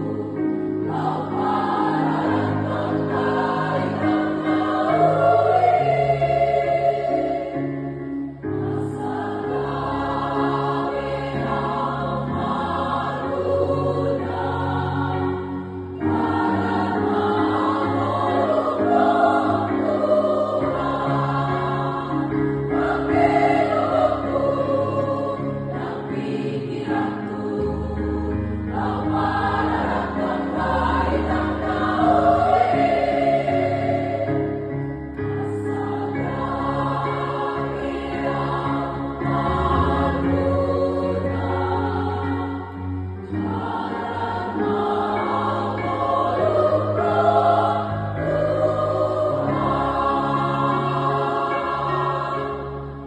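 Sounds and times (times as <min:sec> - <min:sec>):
women's choir singing a hymn: 0:00.0 - 0:53.0.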